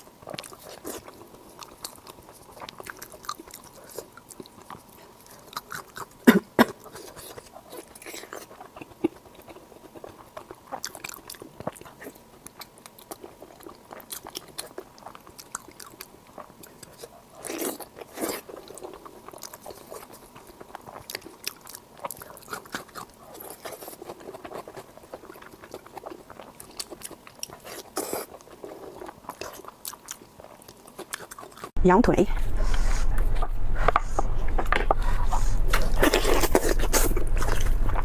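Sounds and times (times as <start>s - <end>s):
chewing and biting: 0.0s - 31.8s, 34.6s - 38.0s
food crunches: 0.2s - 31.7s.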